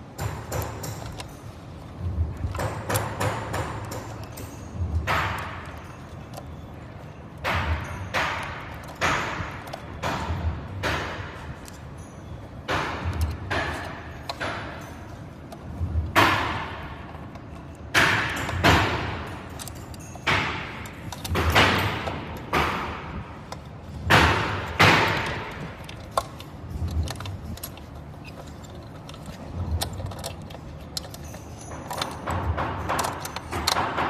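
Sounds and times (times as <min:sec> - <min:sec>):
parts and tools knocking: 0:00.0 - 0:34.0.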